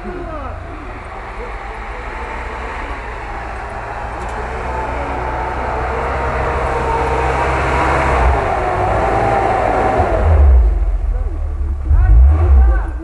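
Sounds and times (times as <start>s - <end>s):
off-road vehicle engine approaching: 0.0s - 13.0s.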